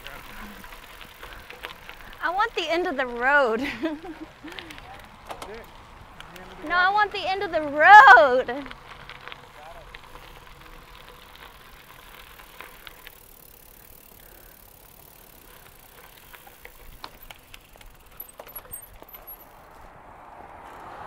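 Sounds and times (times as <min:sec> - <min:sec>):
small clicks and ticks: 0:00.0 - 0:07.6, 0:08.5 - 0:19.9.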